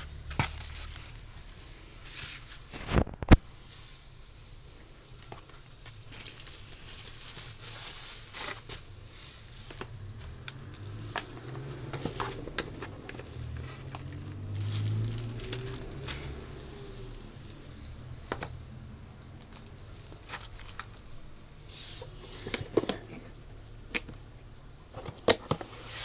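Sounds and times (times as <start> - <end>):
cardboard rustling: 0.0 - 23.4, 24.8 - 26.0
plastic and bubble wrap crinkling: 0.0 - 26.0.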